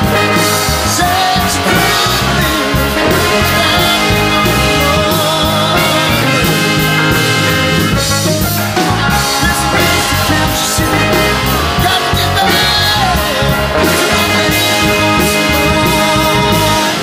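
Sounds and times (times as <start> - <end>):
brass section: 0.0 - 17.0
congas: 0.0 - 17.0
rock band playing: 0.0 - 17.0.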